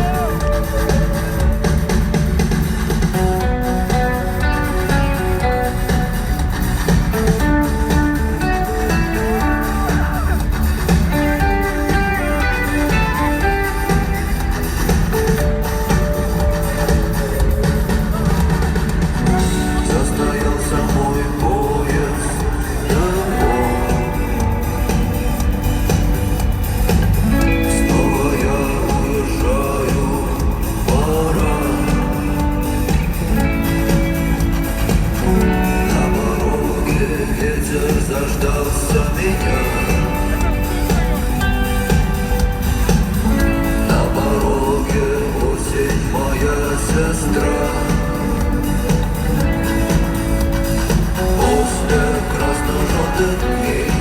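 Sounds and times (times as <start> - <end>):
bass guitar: 0.0 - 54.0
drums: 0.0 - 54.0
live rock band playing: 0.0 - 54.0
melodic guitar line: 0.0 - 54.0
person singing: 0.0 - 54.0.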